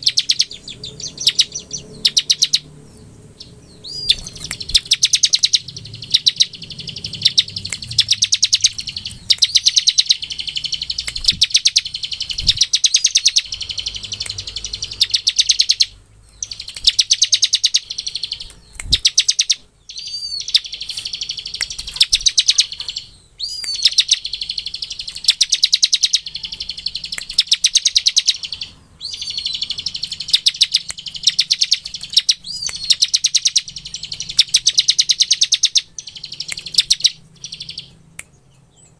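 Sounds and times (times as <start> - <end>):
bird song of fast dry ticks: 0.0 - 38.9.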